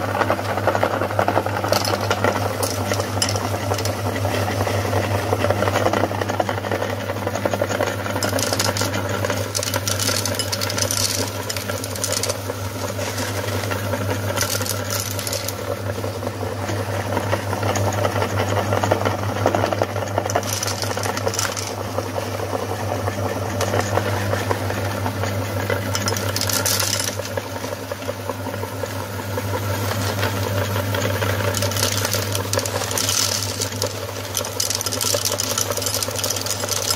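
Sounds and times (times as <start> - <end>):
candy crunching and rattling: 0.0 - 16.0, 17.2 - 22.8, 23.4 - 24.2, 25.7 - 27.7, 30.0 - 36.9
meat grinder motor humming: 0.0 - 36.9.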